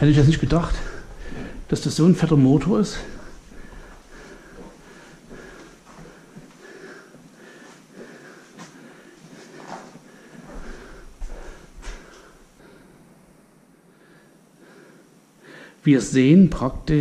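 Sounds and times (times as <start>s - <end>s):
person breathing: 0.6s - 1.8s, 2.7s - 15.8s.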